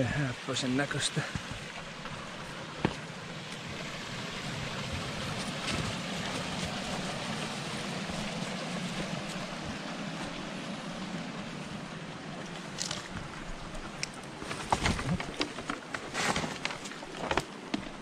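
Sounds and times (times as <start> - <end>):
river water rushing: 0.0 - 14.6.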